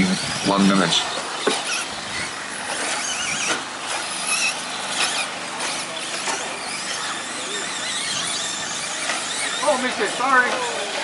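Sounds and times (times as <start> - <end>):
high-pitched motor whines: 0.0 - 11.0.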